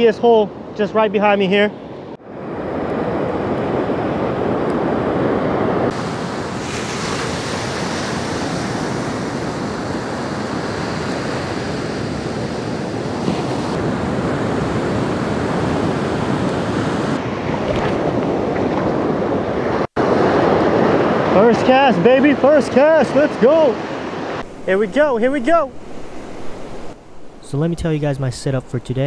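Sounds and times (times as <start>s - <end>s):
waves breaking on beach: 2.2s - 27.0s.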